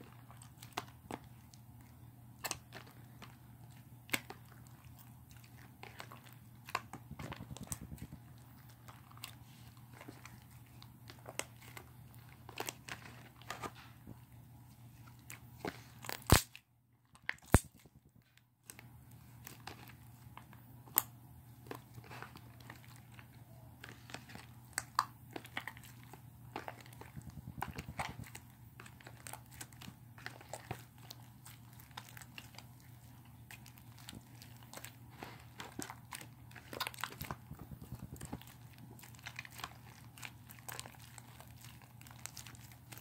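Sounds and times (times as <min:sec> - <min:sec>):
slime squishing: 0:00.0 - 0:16.5, 0:18.6 - 0:43.0
low steady hum: 0:00.0 - 0:43.0.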